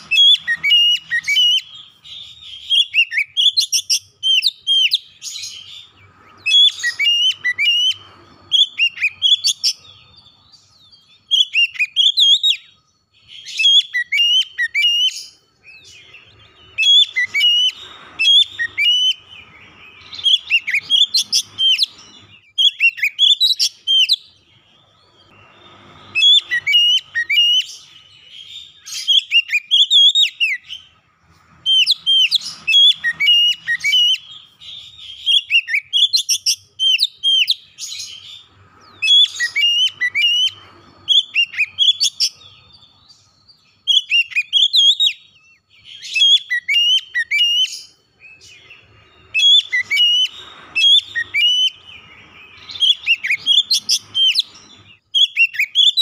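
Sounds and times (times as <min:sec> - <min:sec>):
bird singing whistled notes: 0:00.0 - 0:56.0.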